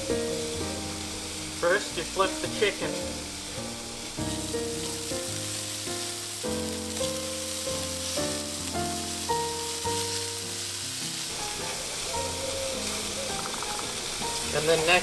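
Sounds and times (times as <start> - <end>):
background music: 0.0 - 15.0
chicken sizzling on grill: 0.0 - 15.0.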